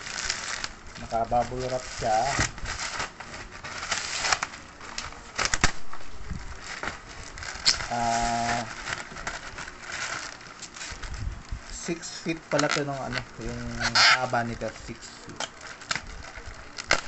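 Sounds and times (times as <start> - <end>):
bubble wrap crinkling and tearing: 0.0 - 17.0.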